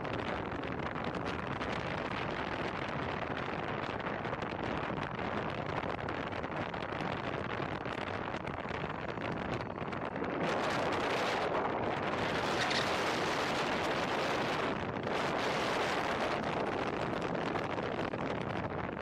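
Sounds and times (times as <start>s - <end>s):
car road noise: 0.0s - 19.0s
wind buffeting microphone: 0.0s - 19.0s.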